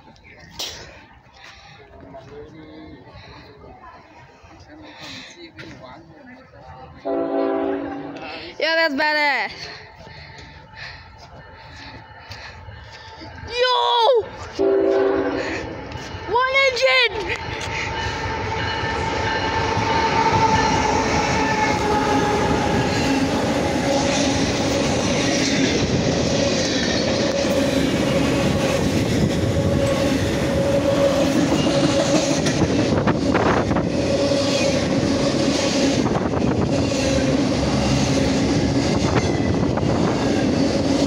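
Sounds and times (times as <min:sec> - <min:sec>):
diesel locomotive passing: 0:00.0 - 0:41.0.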